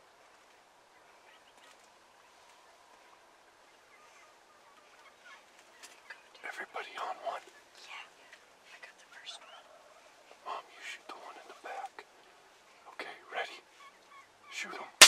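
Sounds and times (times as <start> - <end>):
wild turkeys clucking and yelping: 1.0 - 15.0.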